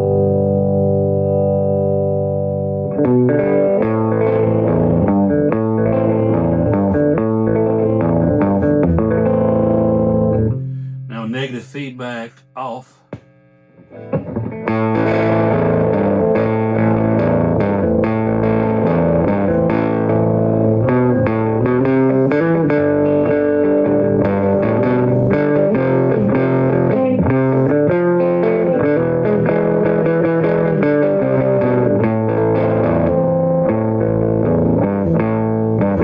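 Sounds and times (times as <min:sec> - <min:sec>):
electric guitar playing: 0:00.0 - 0:36.0.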